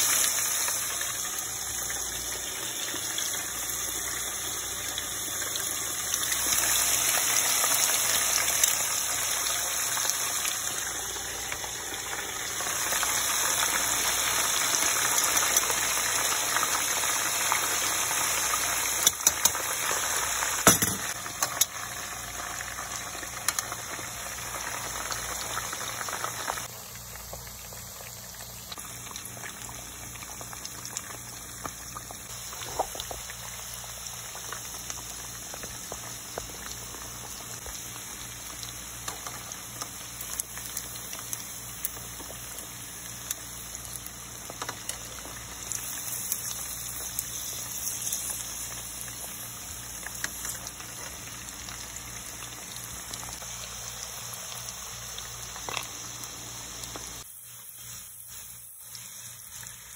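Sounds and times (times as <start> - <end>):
deep-frying sizzle with pops: 0.0 - 59.9.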